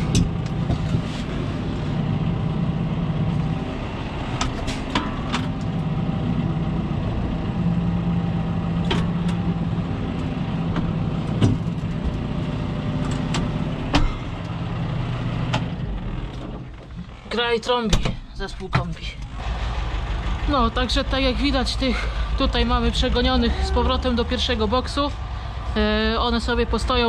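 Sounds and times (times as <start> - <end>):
diesel engine running at low revs: 0.0 - 17.8, 19.0 - 27.0.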